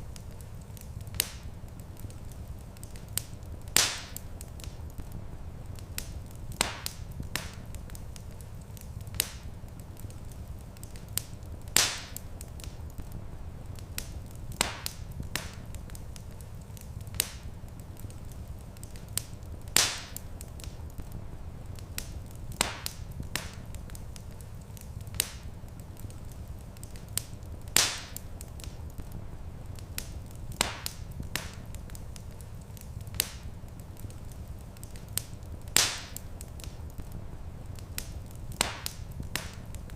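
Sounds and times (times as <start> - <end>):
steady low rumble: 0.0 - 18.7, 19.3 - 26.7, 27.4 - 39.9
wood fire crackling: 0.0 - 39.9.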